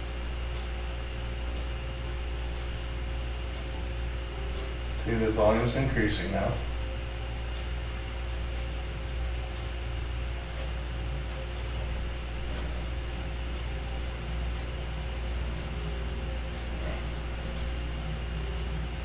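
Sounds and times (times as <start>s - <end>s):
low electrical hum: 0.0s - 19.0s
room noise: 0.0s - 19.0s.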